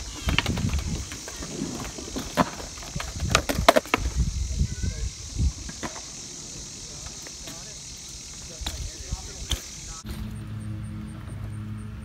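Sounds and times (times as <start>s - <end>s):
bike tyres rumbling on asphalt: 0.0s - 12.0s.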